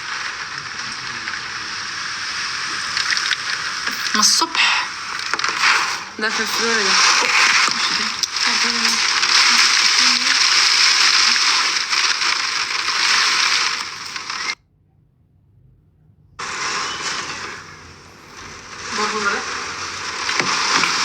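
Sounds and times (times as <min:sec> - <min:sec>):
heavy rain pouring: 0:00.0 - 0:14.6, 0:16.4 - 0:21.0.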